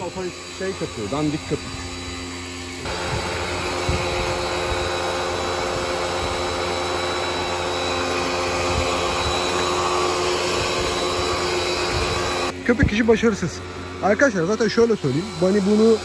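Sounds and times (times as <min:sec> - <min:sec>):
pressure washer motor whine: 0:00.0 - 0:16.0.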